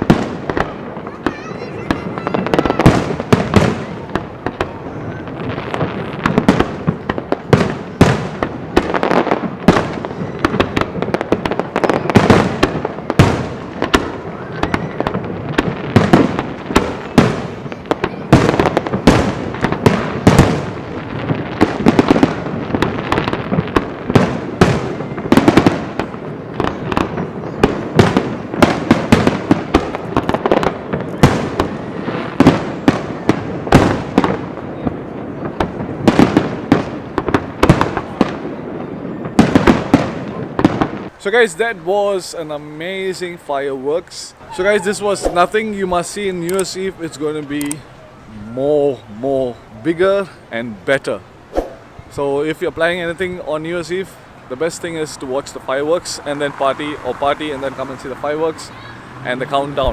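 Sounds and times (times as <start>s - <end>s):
fireworks banging: 0.0s - 59.9s.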